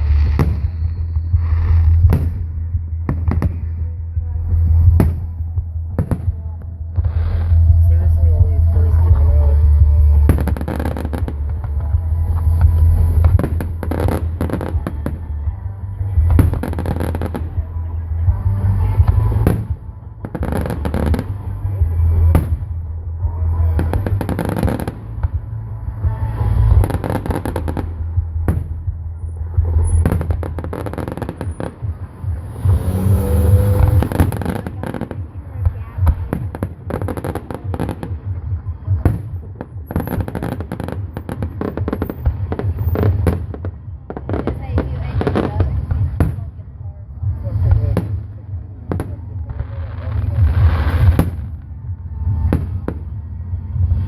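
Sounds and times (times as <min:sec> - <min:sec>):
fireworks crackle: 0:00.0 - 0:22.8, 0:23.6 - 0:46.6, 0:47.4 - 0:54.0
deep low rumble: 0:00.0 - 0:54.0.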